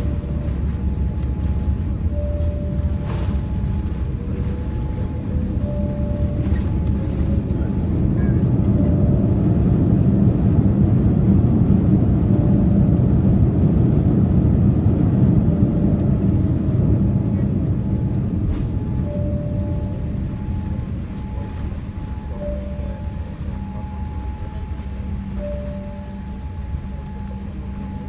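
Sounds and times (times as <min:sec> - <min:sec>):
airplane cabin rumble: 0:00.0 - 0:28.0.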